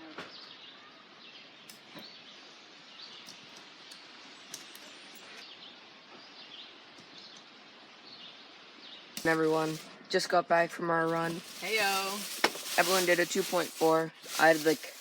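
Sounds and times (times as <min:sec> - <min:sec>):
small birds chirping: 0:00.0 - 0:15.0
steady background hiss: 0:00.5 - 0:15.0.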